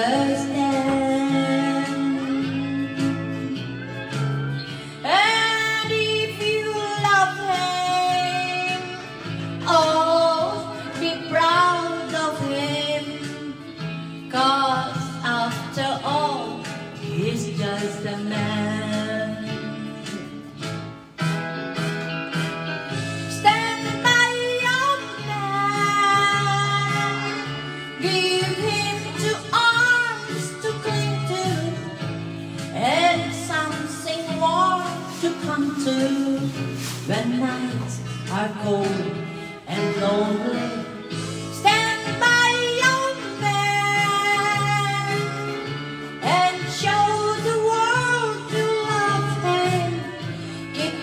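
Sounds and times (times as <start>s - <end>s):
recorded backing track: 0.0s - 51.0s
woman singing karaoke: 0.0s - 51.0s.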